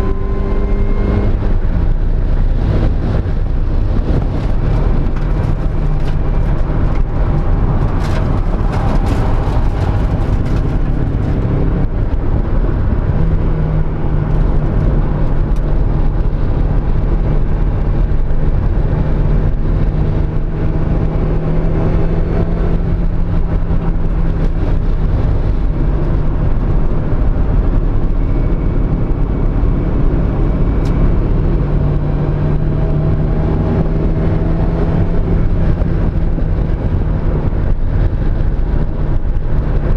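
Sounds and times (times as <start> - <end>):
car engine running hard: 0.0 - 39.9
wind and road noise: 0.0 - 39.9.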